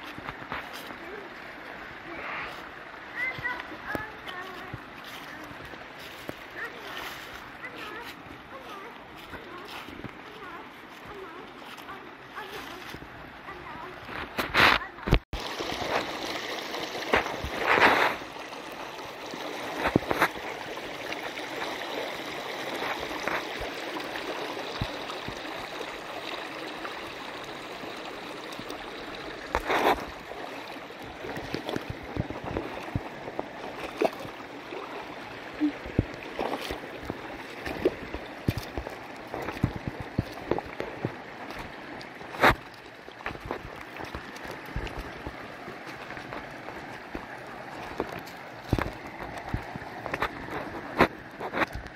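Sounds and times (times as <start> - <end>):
creek water rushing and gurgling: 0.0 - 51.9.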